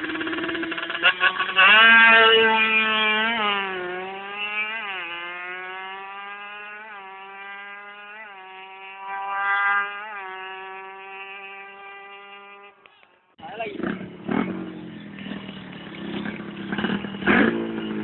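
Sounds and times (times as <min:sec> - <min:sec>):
motorcycle accelerating: 0:00.0 - 0:18.0.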